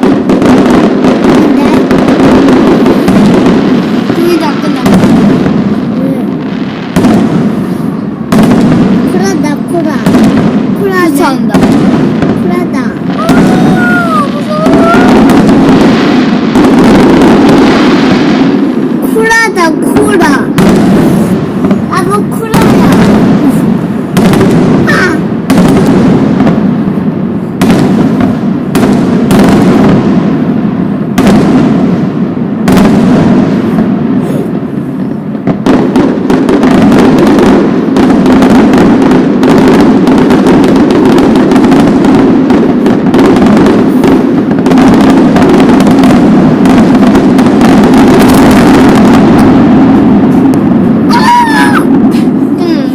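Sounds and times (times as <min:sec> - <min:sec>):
fireworks booming and crackling: 0:00.0 - 0:52.9.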